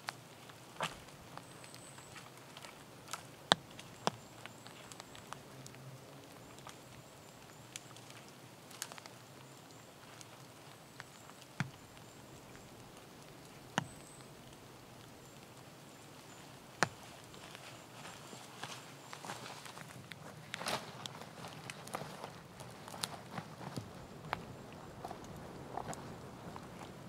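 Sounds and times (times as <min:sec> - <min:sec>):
quiet forest background: 0:00.0 - 0:27.0.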